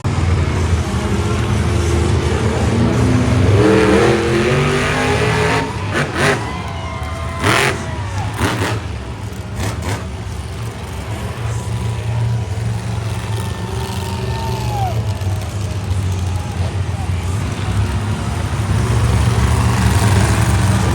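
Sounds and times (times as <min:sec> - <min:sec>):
monster truck engine revving: 0:00.0 - 0:20.9.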